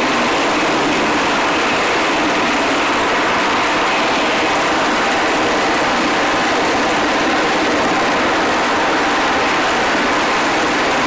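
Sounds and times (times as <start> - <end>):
helicopter engines and rotor rushing: 0.0 - 11.0.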